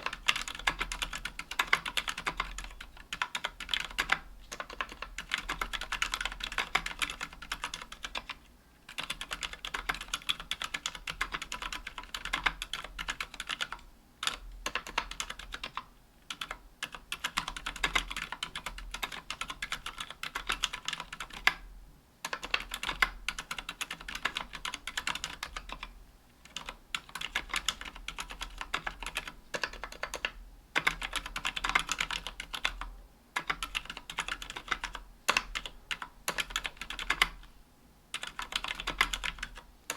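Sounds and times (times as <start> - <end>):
fast typing on mechanical keyboard: 0.0 - 21.6, 22.2 - 37.5, 38.1 - 39.9.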